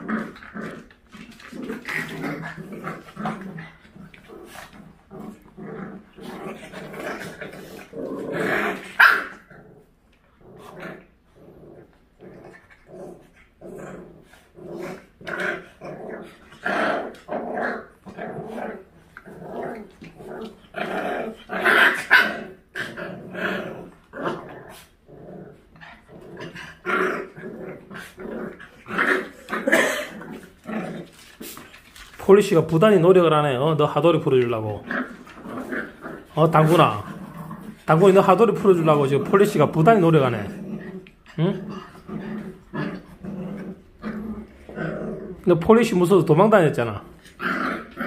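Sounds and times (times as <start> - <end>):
dogs growling: 0.0 - 48.0.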